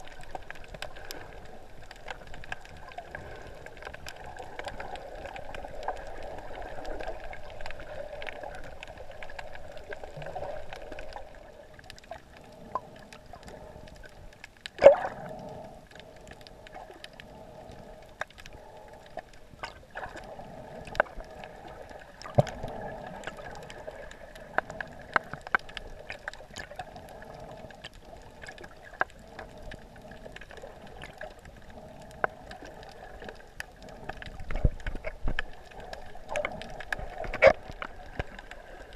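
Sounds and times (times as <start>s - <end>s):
muffled underwater rush: 0.0s - 38.9s
sharp underwater clicks: 0.0s - 38.9s.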